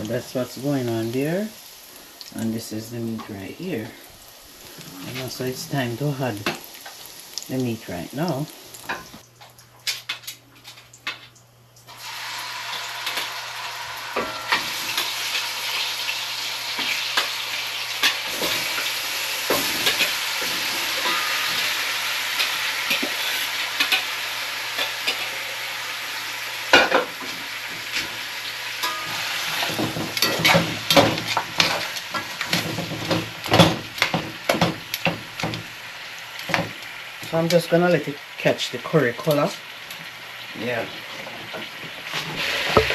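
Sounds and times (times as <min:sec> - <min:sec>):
meat sizzling in hot oil: 0:00.0 - 0:09.2, 0:11.9 - 0:42.9.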